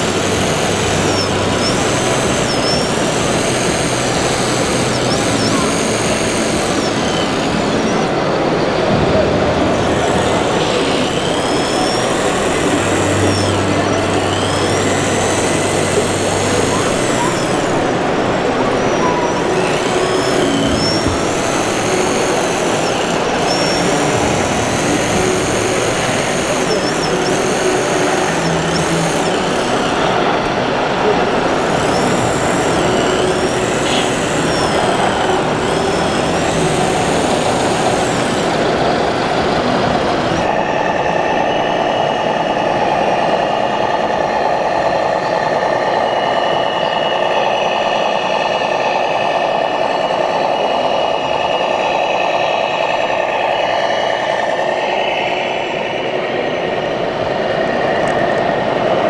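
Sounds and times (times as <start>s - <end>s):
electric drives whining: 0.0s - 59.0s
hall noise: 0.0s - 59.0s.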